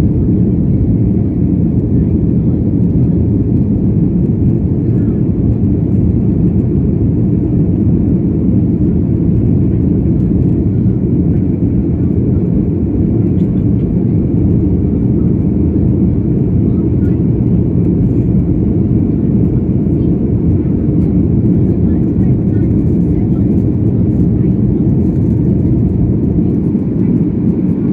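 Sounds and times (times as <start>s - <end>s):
airplane cabin rumble: 0.0s - 27.9s.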